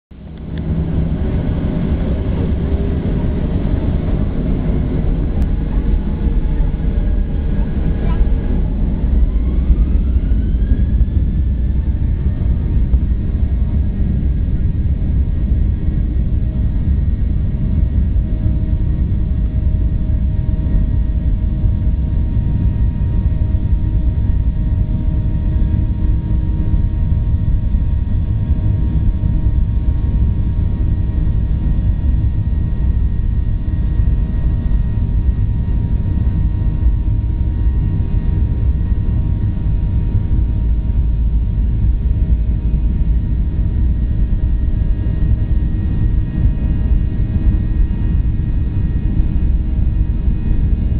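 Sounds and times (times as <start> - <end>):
jet engines at takeoff thrust: 0.1 - 50.9.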